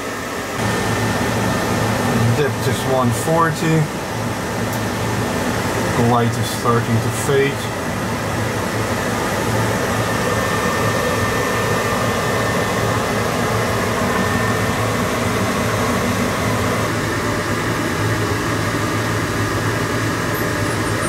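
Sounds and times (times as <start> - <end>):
fan rushing noise: 0.0 - 21.0
low machinery hum: 0.0 - 21.0.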